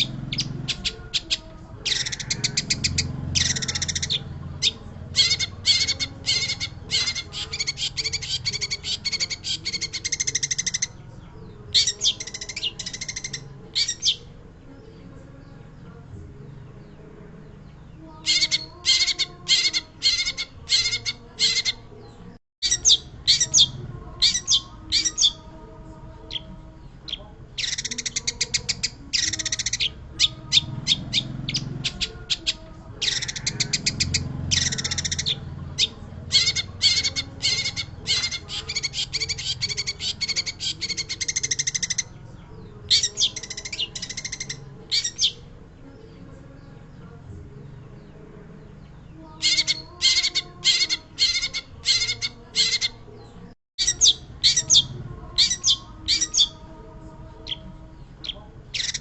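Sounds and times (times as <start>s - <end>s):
bird chattering song: 0.0s - 59.0s.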